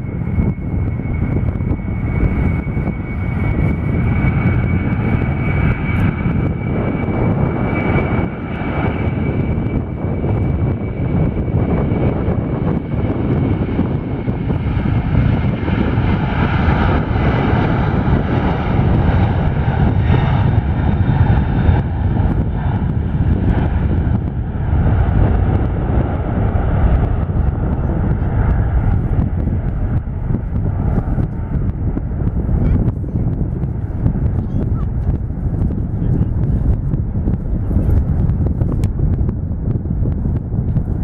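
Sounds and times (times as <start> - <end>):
airliner engine rumble: 0.0 - 41.0.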